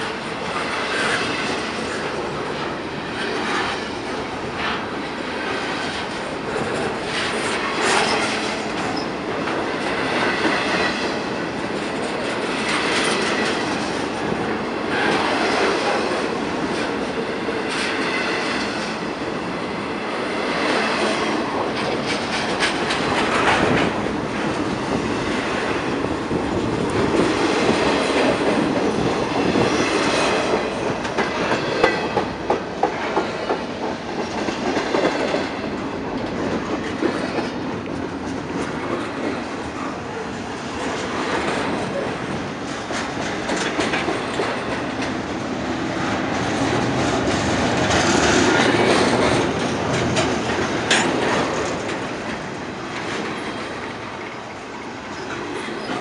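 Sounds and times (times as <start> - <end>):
train wheels rumbling on rail: 0.0 - 56.0
wheels clacking over rail joints: 0.0 - 56.0.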